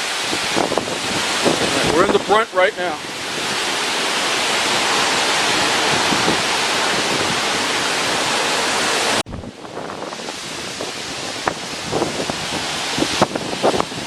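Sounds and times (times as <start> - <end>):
wind buffeting microphone: 0.0 - 14.0
wind gusting hard: 0.0 - 14.0.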